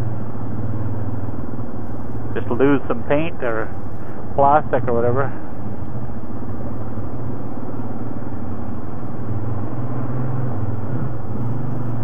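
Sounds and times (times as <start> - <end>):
atv engine running: 0.0 - 4.3, 5.2 - 12.0.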